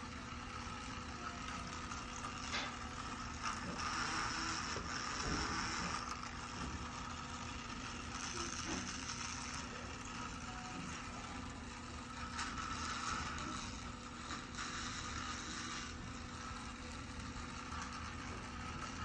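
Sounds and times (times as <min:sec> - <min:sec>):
toy car electric motor running: 0:00.0 - 0:19.0.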